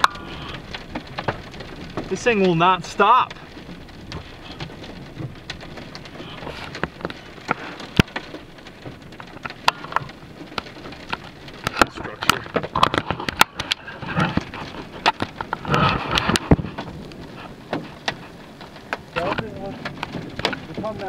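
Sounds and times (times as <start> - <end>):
rain pattering on a car: 0.0 - 21.0.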